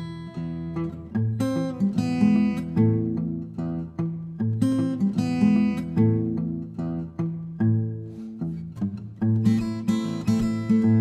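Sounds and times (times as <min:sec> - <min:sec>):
fingerstyle blues guitar: 0:00.0 - 0:11.0.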